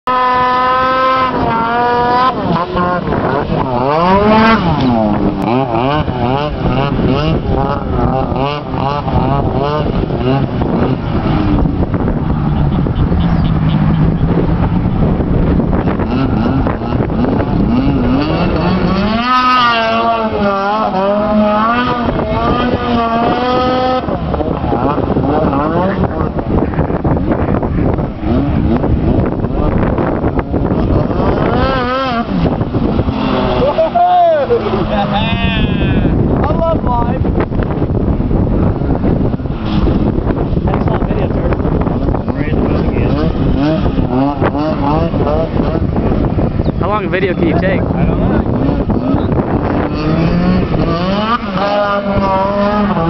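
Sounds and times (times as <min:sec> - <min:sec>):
snowmobile engine at high revs: 0:00.0 - 0:53.0
wind buffeting microphone: 0:00.1 - 0:53.0.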